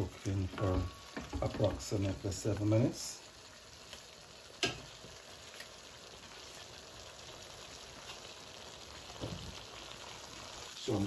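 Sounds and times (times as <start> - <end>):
food sizzling in a metal pan: 0.0 - 11.0.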